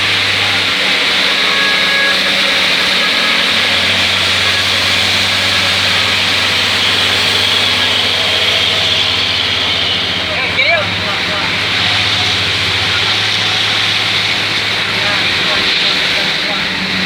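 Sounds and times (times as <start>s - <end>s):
bus engine hum: 0.0s - 17.0s
tyres hissing on wet road: 0.0s - 17.0s.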